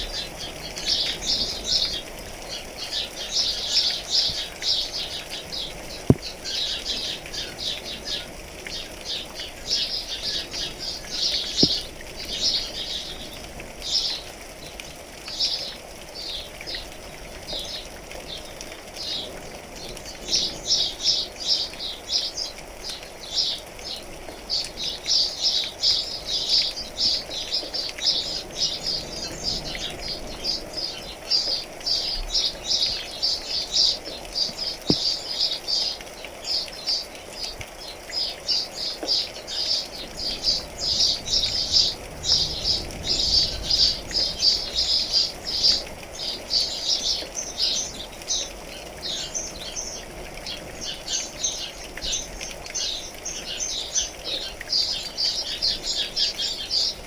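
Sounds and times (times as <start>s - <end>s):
rain pattering: 0.0s - 57.0s
small birds chirping: 0.0s - 57.0s.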